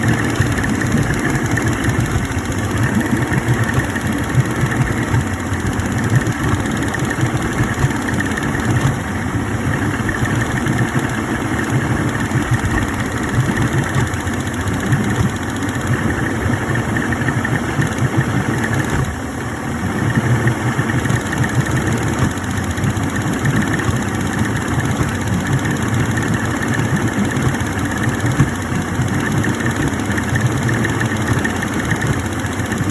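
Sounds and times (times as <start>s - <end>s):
outboard engine idling: 0.0s - 32.9s.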